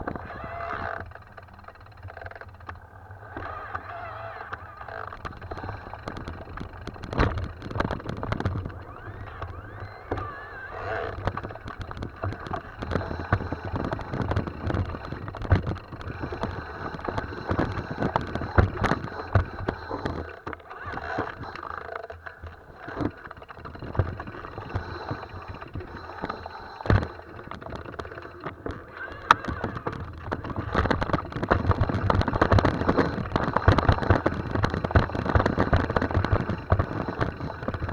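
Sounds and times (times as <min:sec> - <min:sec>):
bike rattling and knocking: 0:00.0 - 0:37.9
tyres rolling on dirt and stones: 0:03.4 - 0:37.9.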